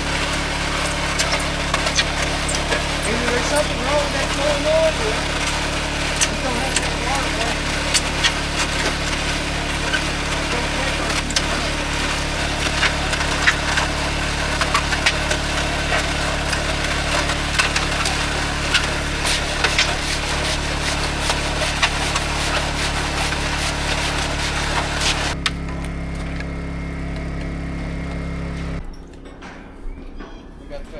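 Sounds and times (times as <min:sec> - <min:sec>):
engine running steadily: 0:00.0 - 0:29.6.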